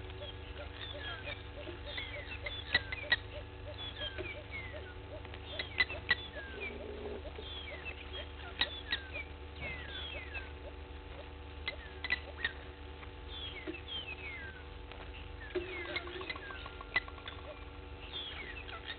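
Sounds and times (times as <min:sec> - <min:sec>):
birds chirping and whistling: 0:00.0 - 0:18.9
steady low hum: 0:00.0 - 0:18.9.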